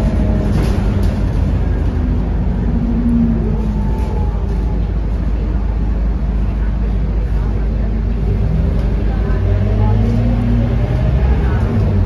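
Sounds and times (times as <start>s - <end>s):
bus diesel engine drone: 0.0s - 12.0s
road and tyre noise: 0.0s - 12.0s.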